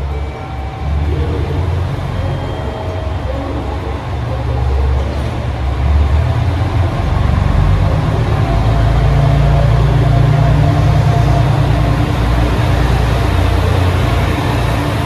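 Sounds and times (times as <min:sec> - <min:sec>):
train engine drone: 0:00.0 - 0:15.0.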